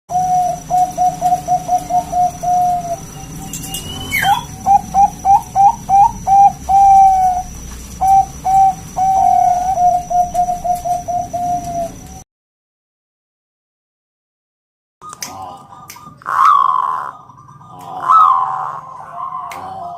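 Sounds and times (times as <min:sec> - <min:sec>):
dove cooing: 0:00.1 - 0:12.2, 0:15.2 - 0:19.9.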